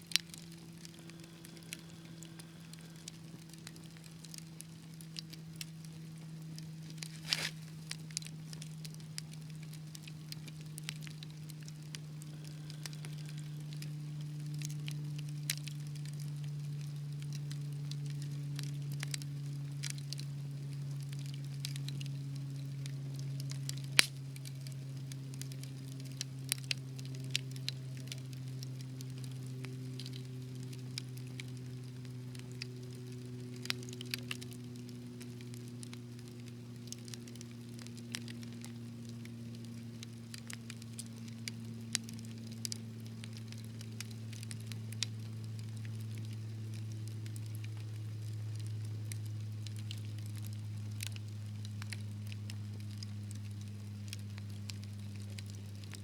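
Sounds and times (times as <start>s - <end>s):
low steady hum: 0.0s - 56.0s
wood fire crackling: 0.0s - 56.0s.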